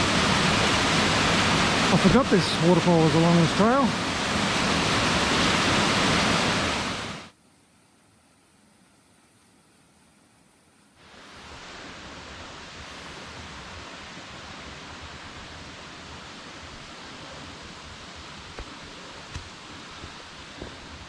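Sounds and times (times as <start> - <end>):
waterfall rushing: 0.0 - 7.3, 11.0 - 21.0.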